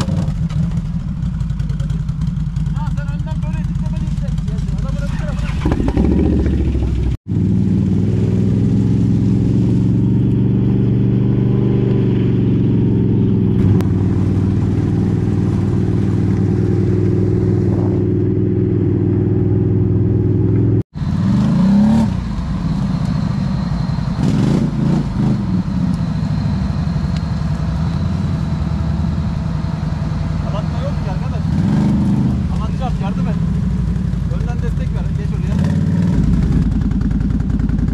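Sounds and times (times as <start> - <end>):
atv engine revving: 0.0 - 37.9.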